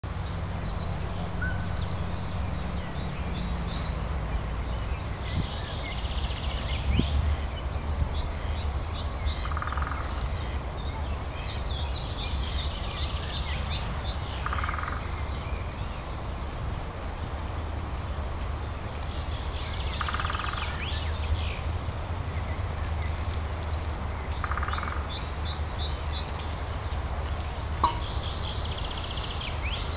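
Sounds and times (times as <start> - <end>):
small songbirds chirping: 0.0 - 29.9.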